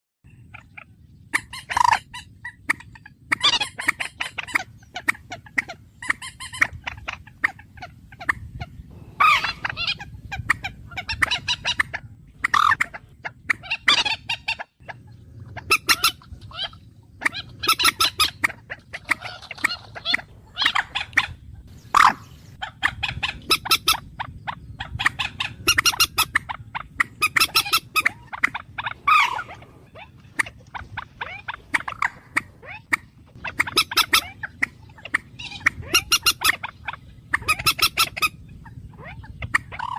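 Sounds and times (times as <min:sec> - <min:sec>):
rattling bird calls: 0:00.3 - 0:39.9
steady low hum: 0:00.3 - 0:39.9.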